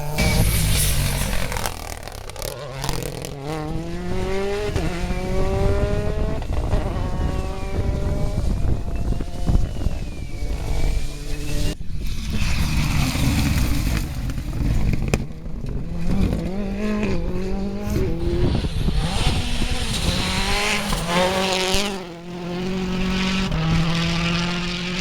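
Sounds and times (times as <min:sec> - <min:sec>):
gear change: 0:00.0 - 0:25.0
rally car engine revving: 0:00.0 - 0:25.0.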